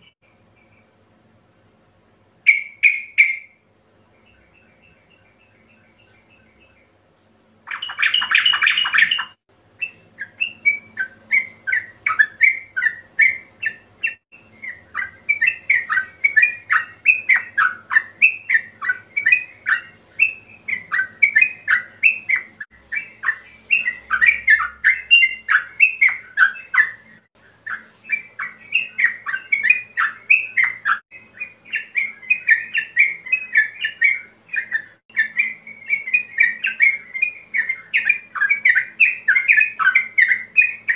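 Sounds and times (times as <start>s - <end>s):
bird song with harsh chattering: 0.0s - 1.1s, 2.4s - 40.9s.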